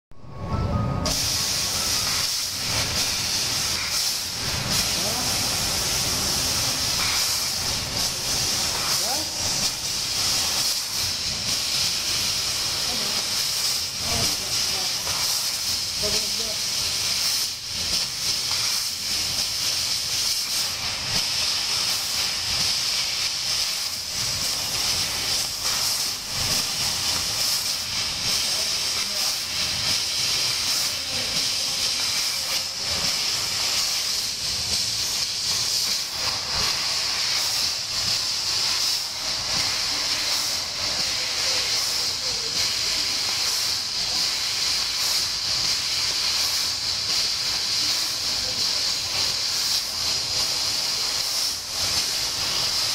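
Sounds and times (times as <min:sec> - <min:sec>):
gas jet hiss: 0:01.0 - 0:52.9.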